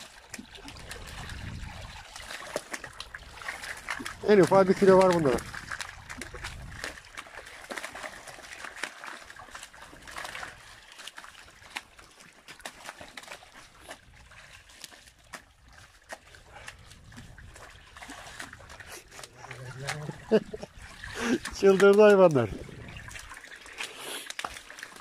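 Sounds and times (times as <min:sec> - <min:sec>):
fish slapping and splashing: 0:00.0 - 0:25.0
water trickling: 0:00.0 - 0:25.0.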